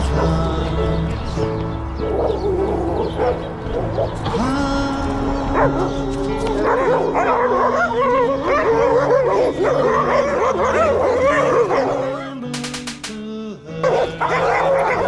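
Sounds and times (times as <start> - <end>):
dogs barking and yipping: 0.0 - 12.9, 13.8 - 15.0
low held music notes: 0.0 - 15.0.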